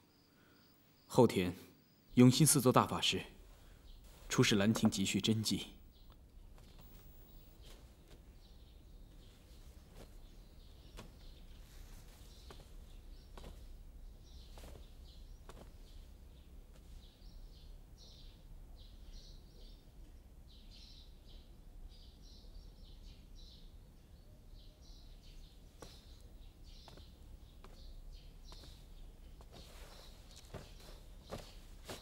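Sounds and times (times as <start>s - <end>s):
small birds chirping: 0.0s - 32.0s
low background hum: 1.9s - 32.0s.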